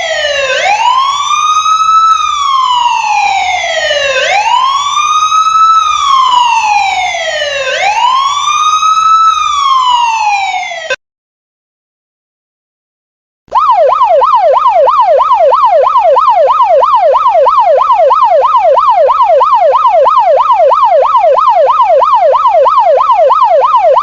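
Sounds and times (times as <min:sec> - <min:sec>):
police siren wailing: 0:00.0 - 0:11.0, 0:13.5 - 0:24.0.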